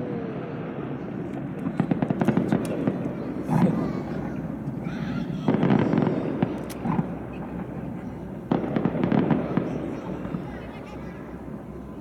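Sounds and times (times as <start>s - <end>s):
fireworks bangs: 0.3s - 12.0s
small fireworks pops: 1.2s - 11.8s.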